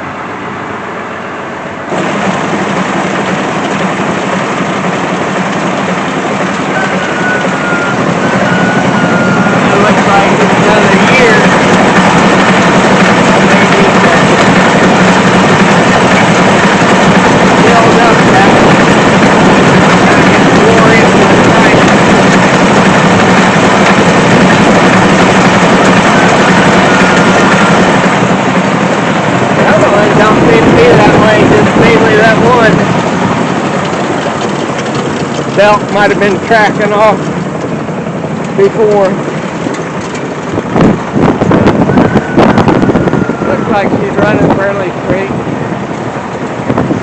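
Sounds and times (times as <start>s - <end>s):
tractor engine running: 0.0s - 47.0s
baler running: 1.9s - 47.0s.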